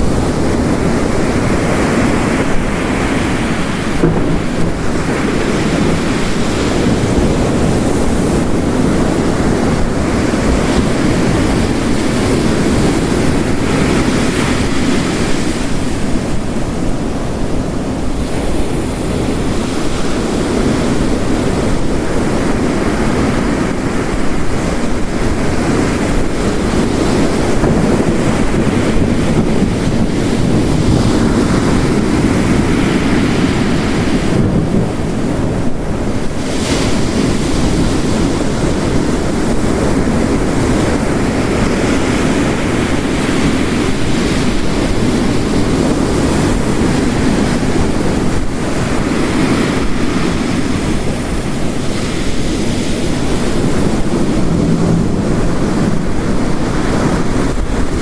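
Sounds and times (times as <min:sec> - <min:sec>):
heavy rain: 0:00.0 - 0:58.0
ocean waves breaking: 0:00.0 - 0:58.0.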